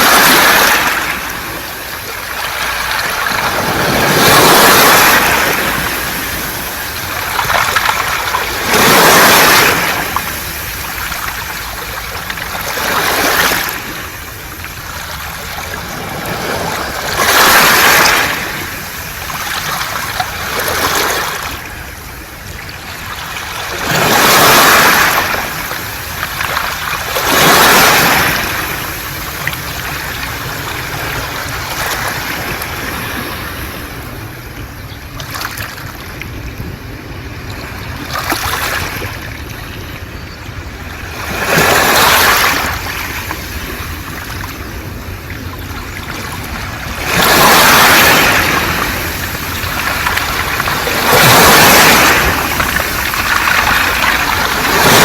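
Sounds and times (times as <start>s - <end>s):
low rumble of surf: 0.0s - 55.0s
waves washing over pebbles: 0.0s - 55.0s.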